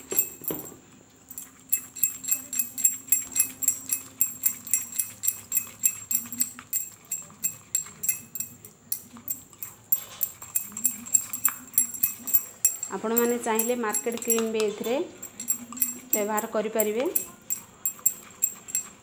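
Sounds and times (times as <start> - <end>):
spatula clinking against glass bowl: 0.0 - 19.0.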